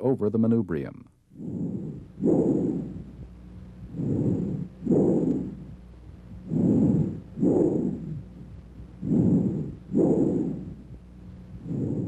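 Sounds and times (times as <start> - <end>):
breath sounds through stethoscope: 1.3 - 12.0.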